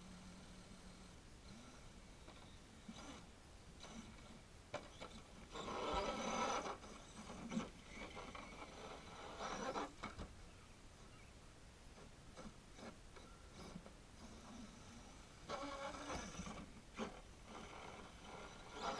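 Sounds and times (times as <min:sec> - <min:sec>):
toy car motor whirring: 0:01.5 - 0:10.3, 0:12.4 - 0:18.9.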